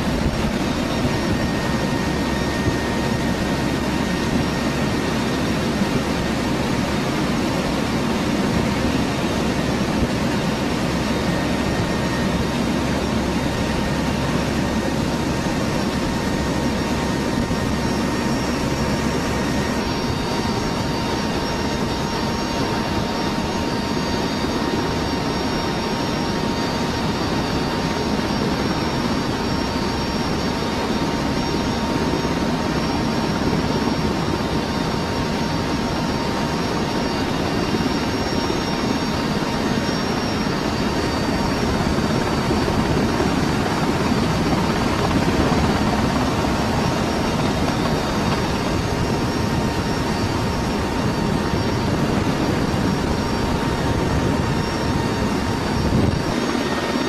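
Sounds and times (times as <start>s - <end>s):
thin steady whine: 0.0s - 57.0s
turboprop engine drone: 0.0s - 57.0s.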